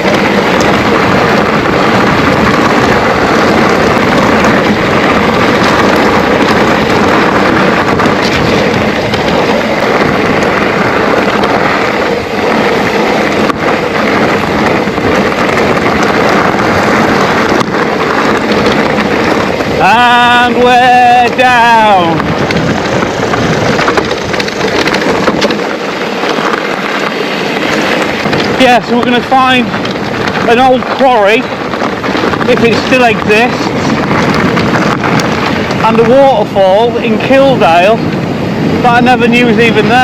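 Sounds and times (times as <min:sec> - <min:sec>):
bike rattling on trail: 0:00.0 - 0:40.0
bike tyre rumble: 0:00.0 - 0:40.0
wind buffeting microphone: 0:00.0 - 0:40.0.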